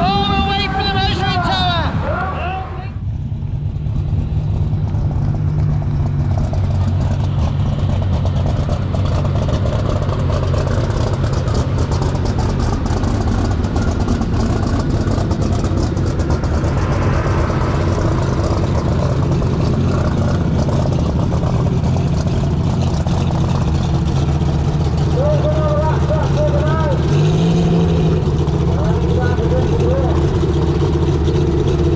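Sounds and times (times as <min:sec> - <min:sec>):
diesel engine running loud: 0:00.0 - 0:31.9.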